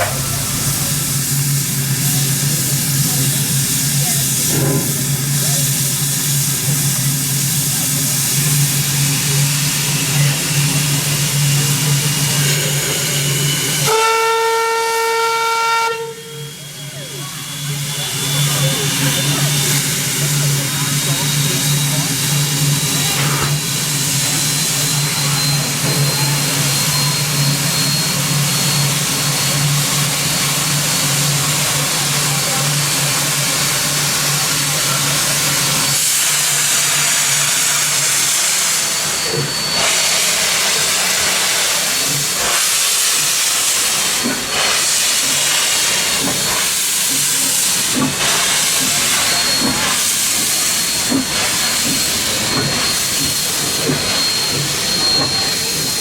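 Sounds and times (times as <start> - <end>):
steam locomotive hissing: 0.0 - 56.0.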